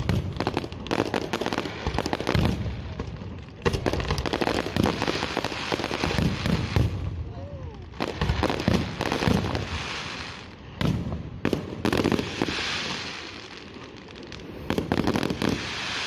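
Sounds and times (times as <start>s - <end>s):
fireworks bursting with sharp bangs: 0.0s - 16.0s
fireworks crackling hiss: 0.0s - 16.0s.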